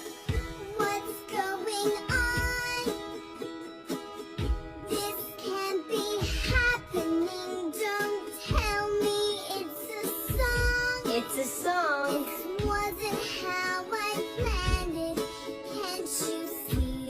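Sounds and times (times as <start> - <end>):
high child-like singing voice: 0.3 - 3.2, 4.8 - 17.0.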